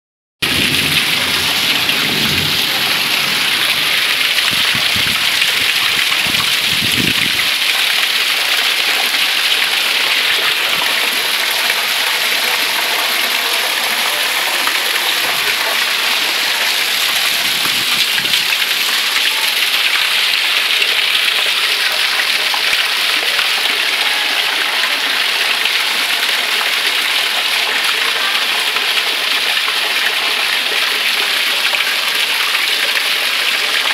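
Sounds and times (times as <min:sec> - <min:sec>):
heavy rain on street and rooftops: 0:00.4 - 0:33.9.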